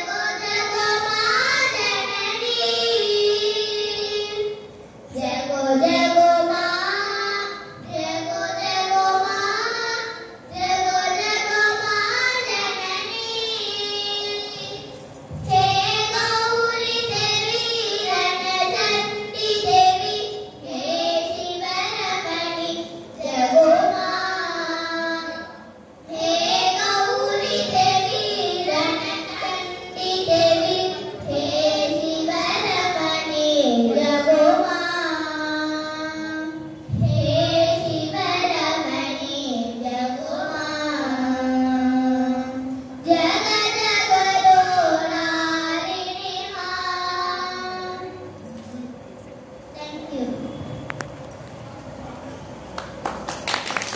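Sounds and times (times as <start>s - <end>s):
two girls singing duet: 0.0s - 48.9s.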